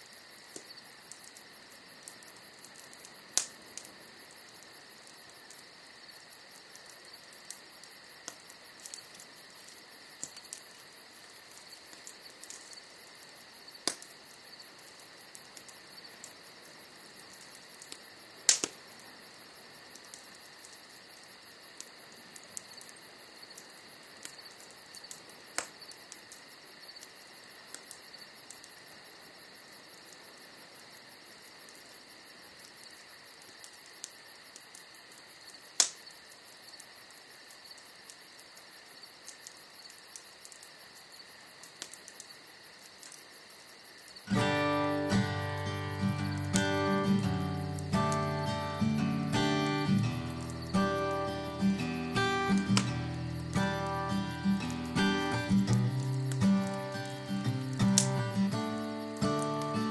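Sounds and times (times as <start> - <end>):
bonfire crackling pops: 0.0 - 59.9
insects chirring: 0.0 - 59.9.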